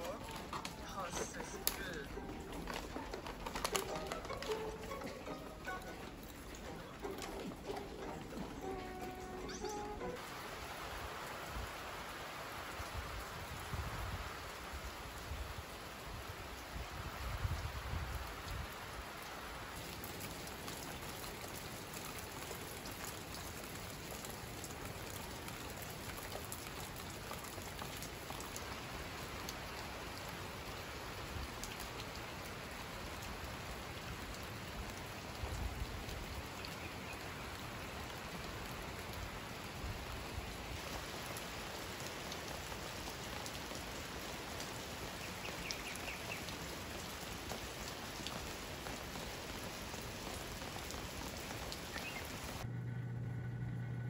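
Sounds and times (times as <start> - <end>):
heavy rain falling: 0.0 - 52.7.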